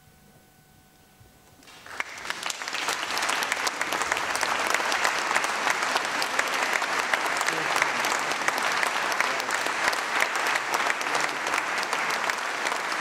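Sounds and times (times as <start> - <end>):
audience applause: 1.6 - 13.0.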